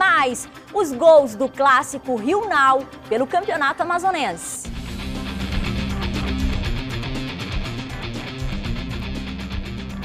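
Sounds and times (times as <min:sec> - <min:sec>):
instrumental news break music: 0:00.0 - 0:10.0.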